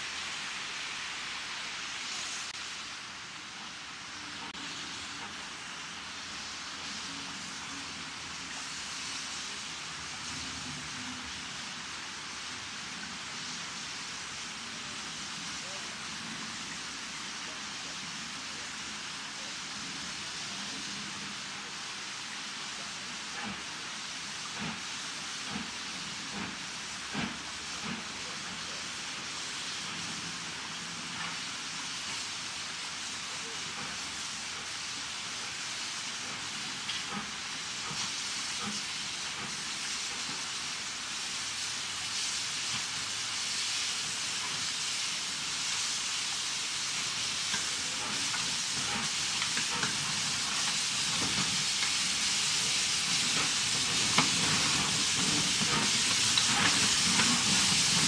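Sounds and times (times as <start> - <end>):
steam locomotive hissing: 0.0 - 58.0.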